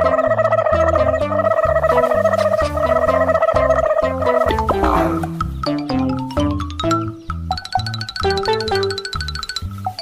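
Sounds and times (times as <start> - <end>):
upbeat children's music: 0.0 - 10.0.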